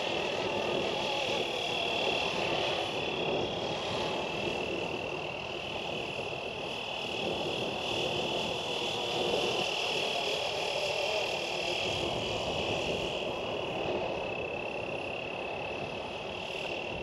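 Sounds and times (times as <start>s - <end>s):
rc helicopter high whine: 0.0s - 17.0s.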